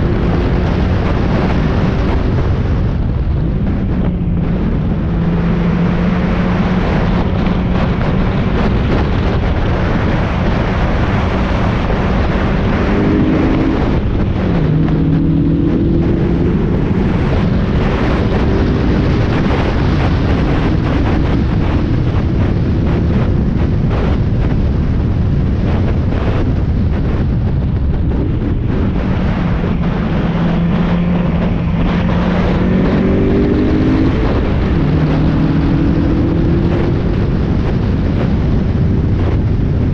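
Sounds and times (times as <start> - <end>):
race car engine revving: 0.0 - 23.4, 28.1 - 37.9
wind and road noise: 0.0 - 39.9.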